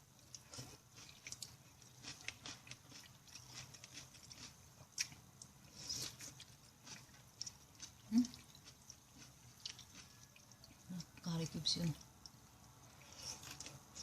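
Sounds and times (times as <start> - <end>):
mouth chewing sounds: 0.2 - 11.3, 11.9 - 14.0.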